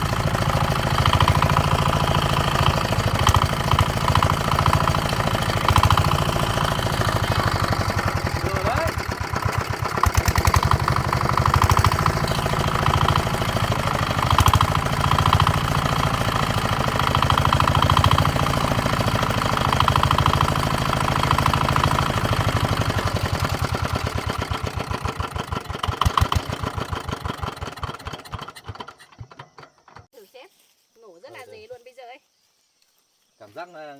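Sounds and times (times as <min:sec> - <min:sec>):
walk-behind tractor engine running: 0:00.0 - 0:30.1.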